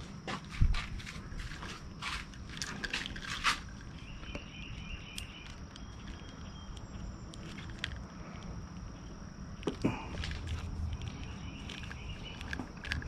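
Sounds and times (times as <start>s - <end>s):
hands rustling wire leads: 0.8s - 13.0s
small ticks: 1.4s - 13.0s.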